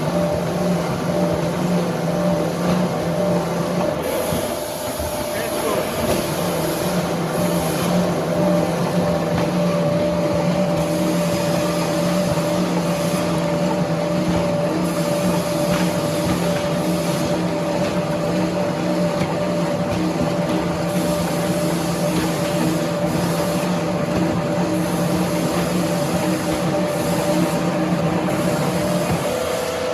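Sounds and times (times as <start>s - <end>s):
sawmill machinery running: 0.0s - 29.9s.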